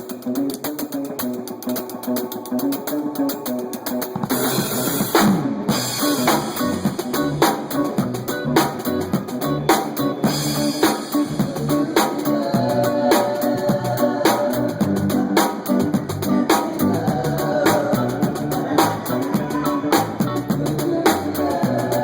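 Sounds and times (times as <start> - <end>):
bass: 0.0 - 22.0
drum kit: 0.0 - 22.0
guitar: 0.0 - 22.0.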